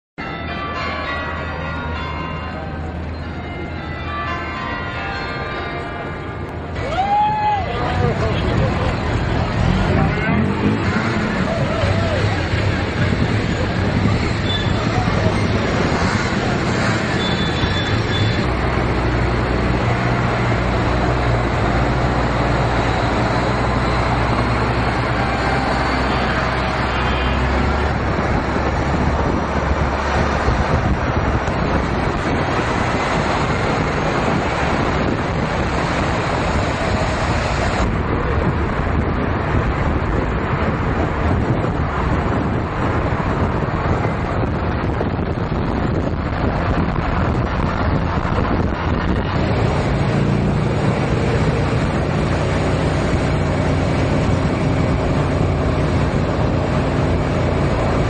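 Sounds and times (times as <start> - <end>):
street traffic: 0.2 - 58.0
wind buffeting microphone: 7.4 - 58.0.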